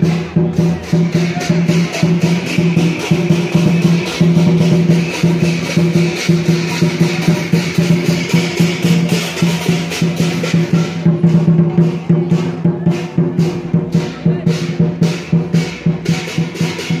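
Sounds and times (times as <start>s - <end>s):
cymbals crashing: 0.0s - 17.0s
drums beating: 0.0s - 17.0s.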